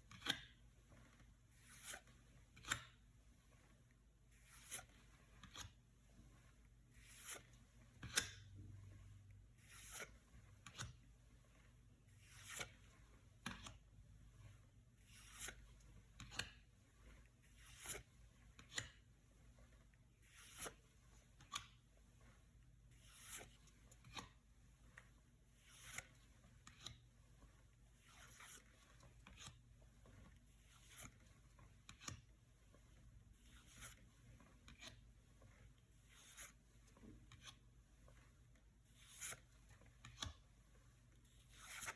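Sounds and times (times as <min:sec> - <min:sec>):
cards swishing against each other: 0:00.1 - 0:41.9.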